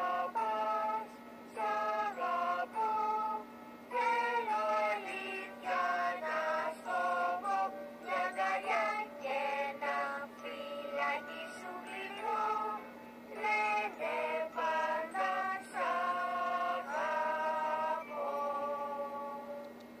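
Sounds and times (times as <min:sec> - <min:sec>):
high-pitched sung children's song: 0:00.0 - 0:19.7
steady low hum: 0:00.0 - 0:20.0.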